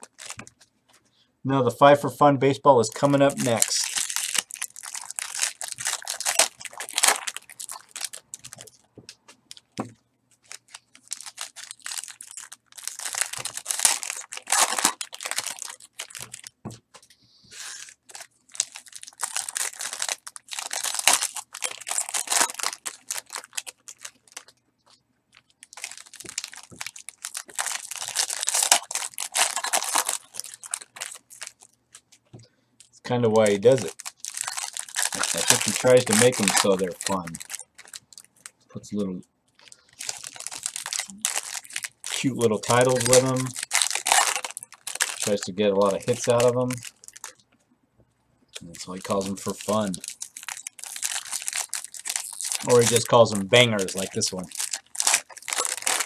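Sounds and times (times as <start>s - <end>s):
foil wrappers tearing and crinkling: 0.0s - 0.6s, 3.0s - 8.8s, 10.4s - 16.6s, 17.5s - 24.6s, 25.3s - 32.1s, 33.4s - 38.5s, 39.6s - 47.4s, 48.6s - 56.0s.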